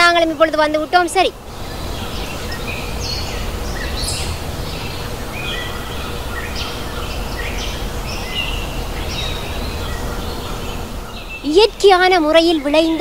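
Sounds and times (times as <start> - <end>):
low outdoor rumble: 0.0 - 13.0
birds chirping and whistling: 1.5 - 13.0.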